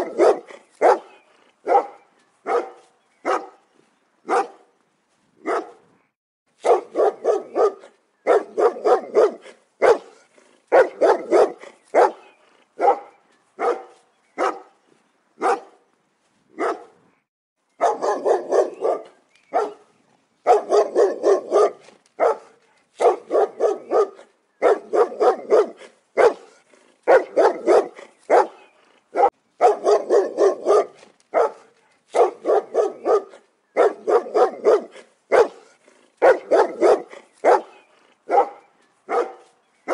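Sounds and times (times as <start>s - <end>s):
dog barking: 0.0s - 3.6s, 4.3s - 4.7s, 5.4s - 5.8s, 6.6s - 14.7s, 15.4s - 15.8s, 16.6s - 17.0s, 17.8s - 19.9s, 20.5s - 39.9s.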